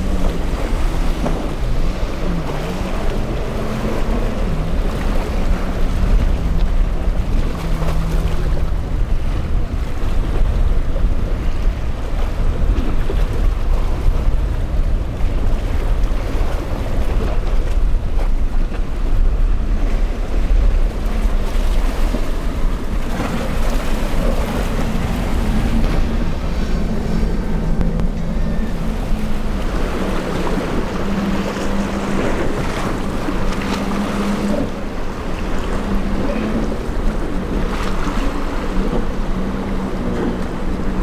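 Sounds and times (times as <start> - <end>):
outboard motor hum: 0.0 - 41.0
waves breaking: 0.0 - 41.0
wind buffeting microphone: 0.0 - 41.0.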